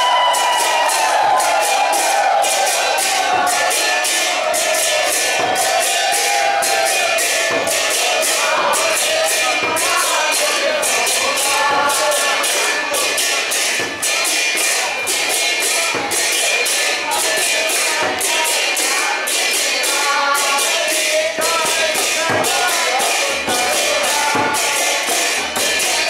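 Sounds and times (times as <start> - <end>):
crowd singing a chant: 0.0 - 26.0
hand cymbals beating: 0.0 - 26.0.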